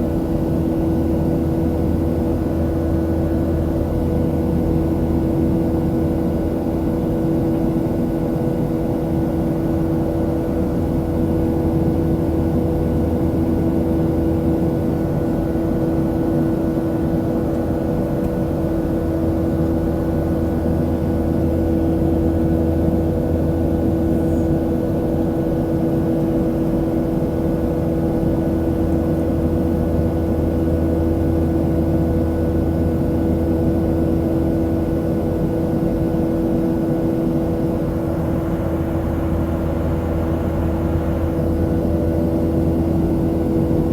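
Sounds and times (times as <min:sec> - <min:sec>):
jet engine drone in airplane cabin: 0:00.0 - 0:43.9.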